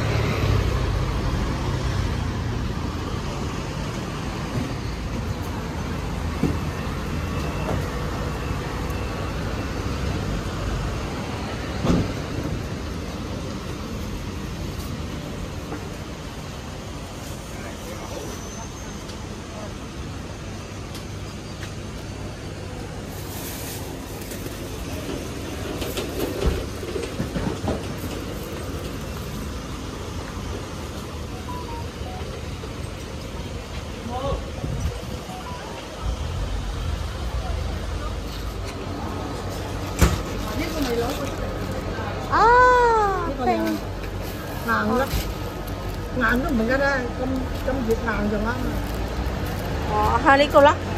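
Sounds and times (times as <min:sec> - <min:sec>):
traffic rumble: 0:00.0 - 0:50.9.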